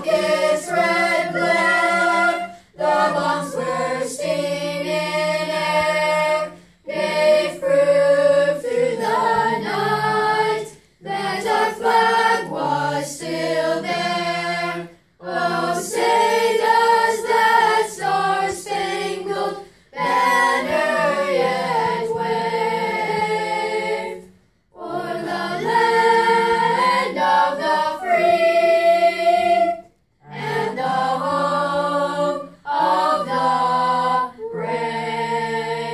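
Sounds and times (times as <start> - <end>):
boys' choir singing a cappella: 0.0 - 35.9.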